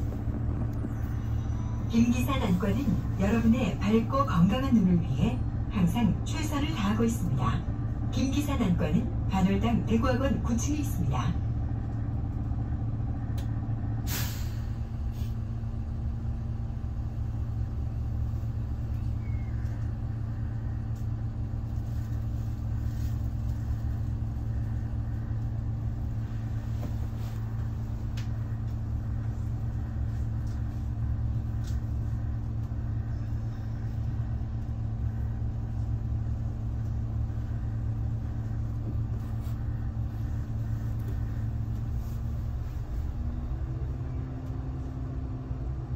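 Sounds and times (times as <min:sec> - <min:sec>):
bus engine idling: 0:00.0 - 0:45.9.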